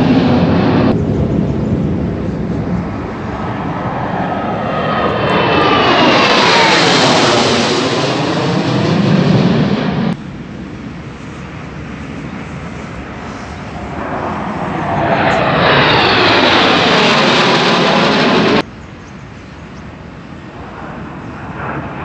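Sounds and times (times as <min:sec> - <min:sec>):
fighter jets flying past: 0:00.0 - 0:18.7, 0:19.7 - 0:22.0.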